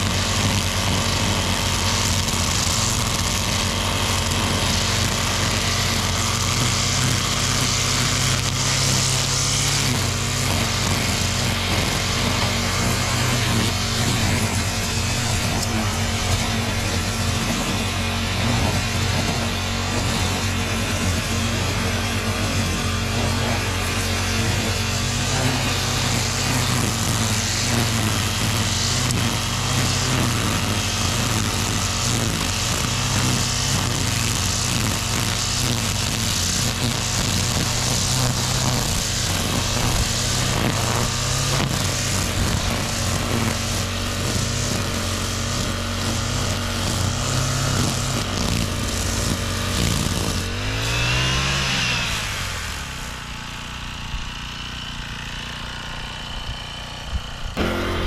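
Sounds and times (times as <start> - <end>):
brush cutter engine running: 0.0 - 58.0
trimmer line cutting grass: 0.0 - 58.0.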